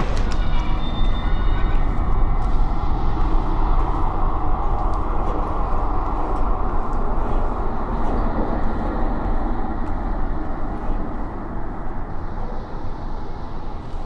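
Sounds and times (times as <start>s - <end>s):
dense low rumble: 0.0s - 14.0s.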